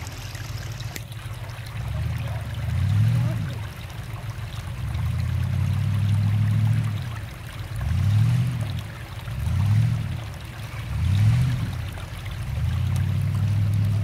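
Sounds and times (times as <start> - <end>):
creek water running over rock: 0.0 - 14.0
distant off-road engine revving: 1.7 - 14.0.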